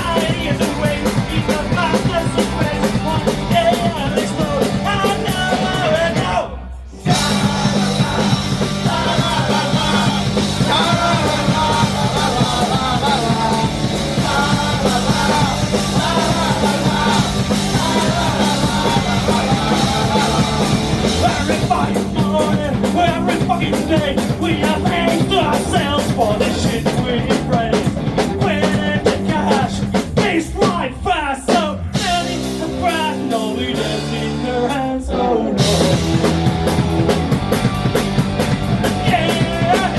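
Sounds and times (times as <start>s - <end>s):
person singing: 0.0s - 37.2s, 38.8s - 39.9s
punk rock band playing: 0.0s - 39.9s.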